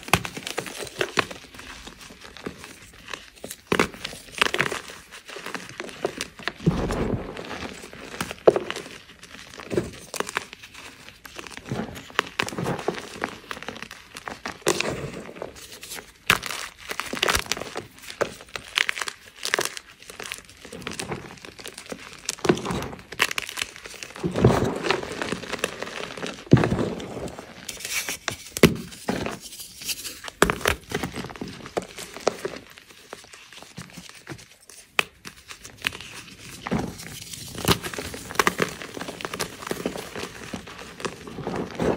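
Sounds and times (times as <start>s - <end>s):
chalk crunching and crumbling: 0.0s - 41.9s.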